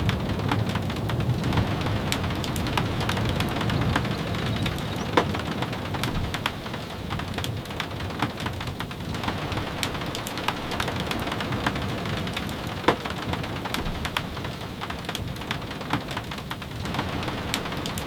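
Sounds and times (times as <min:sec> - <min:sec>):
rain: 0:00.0 - 0:18.0.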